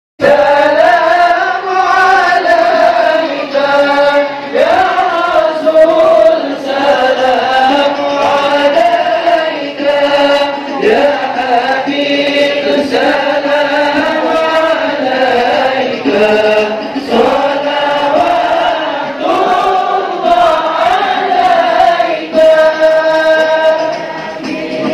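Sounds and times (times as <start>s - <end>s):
many voices chanting in unison: 0.2s - 24.9s.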